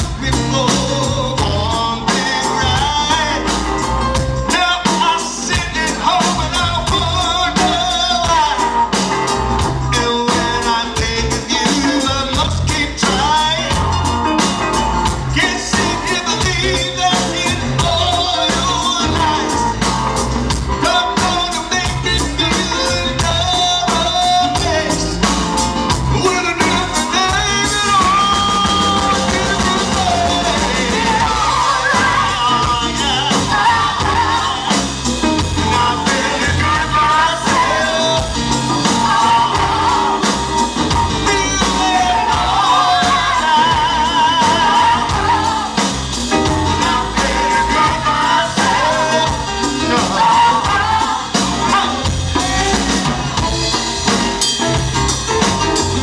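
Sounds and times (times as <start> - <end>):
lead singer's voice: 0.0 - 56.0
live blues band playing: 0.0 - 56.0.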